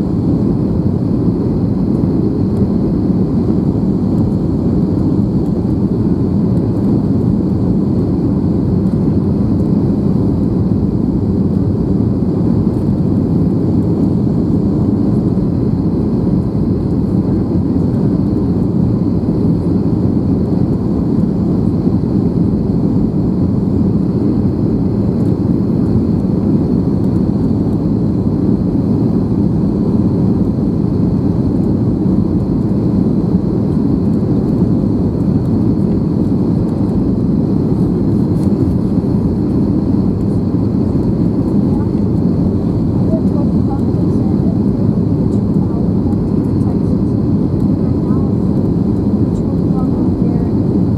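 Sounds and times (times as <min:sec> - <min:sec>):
airplane engines rumbling: 0:00.0 - 0:50.9.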